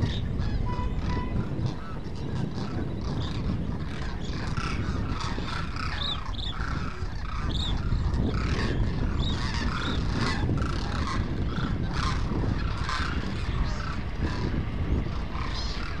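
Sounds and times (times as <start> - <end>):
cranes calling: 0.0 - 16.0
low steady rumble: 0.0 - 16.0.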